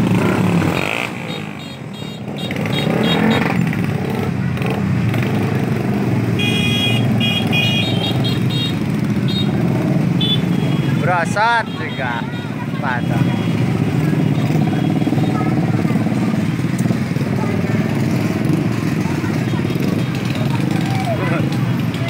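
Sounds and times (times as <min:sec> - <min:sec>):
motorcycles and scooters passing: 0:00.0 - 0:22.0.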